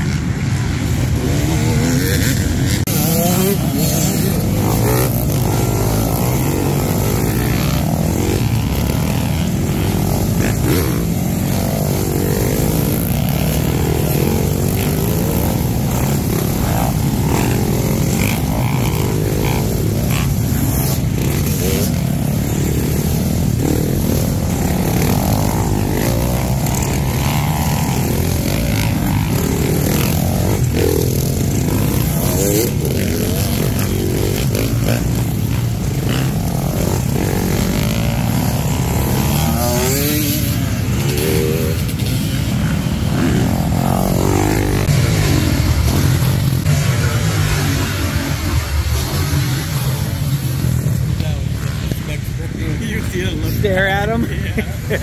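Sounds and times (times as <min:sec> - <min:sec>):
dirt bikes revving past: 0:00.0 - 0:55.0.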